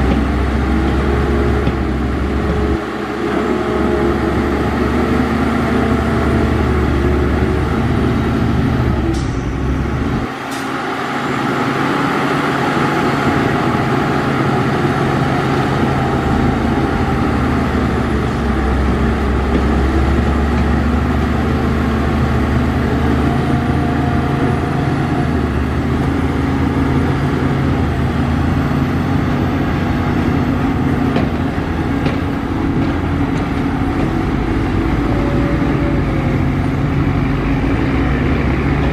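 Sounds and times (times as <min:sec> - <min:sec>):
diesel machinery engine rumble: 0:00.0 - 0:38.9.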